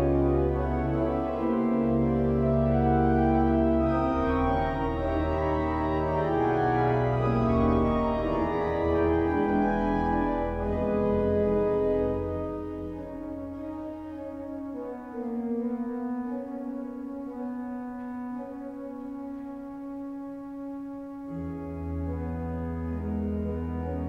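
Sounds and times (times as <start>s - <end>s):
pipe organ playing chords: 0.0s - 24.0s.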